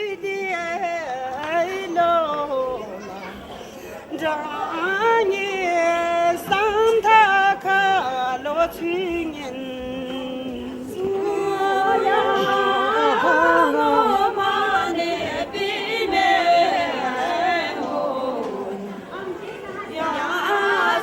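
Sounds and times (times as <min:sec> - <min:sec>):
voices singing without instruments: 0:00.0 - 0:03.2, 0:04.0 - 0:21.0.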